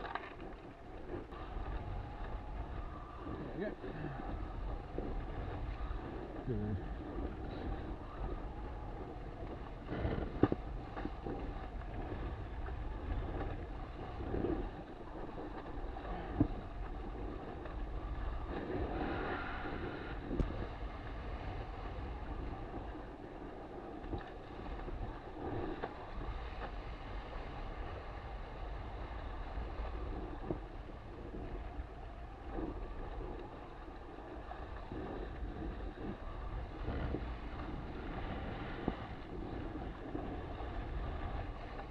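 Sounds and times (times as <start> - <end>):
water washing along hull: 0.0 - 41.9
wind buffeting microphone: 0.0 - 41.9.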